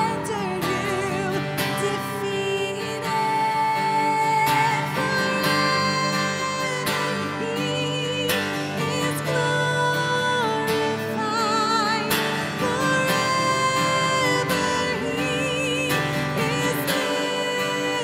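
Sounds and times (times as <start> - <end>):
acoustic guitar strumming: 0.0 - 18.0
woman singing: 0.0 - 18.0.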